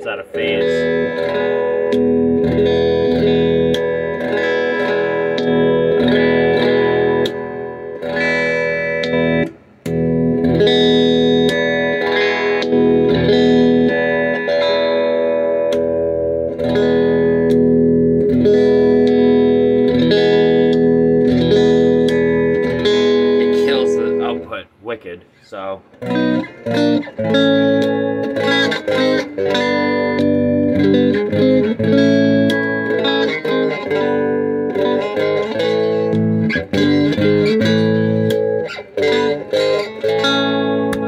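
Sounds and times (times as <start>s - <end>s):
electric guitar chords strummed: 0.0s - 24.8s, 25.8s - 41.0s.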